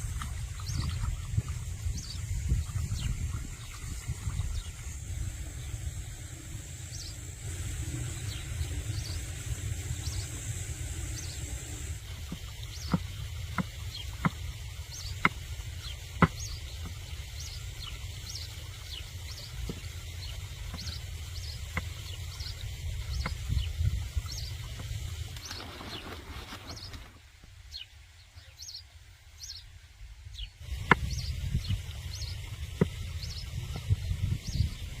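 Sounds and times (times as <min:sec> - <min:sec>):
low rumble of wind: 0:00.0 - 0:35.0
small birds chirping: 0:00.0 - 0:35.0.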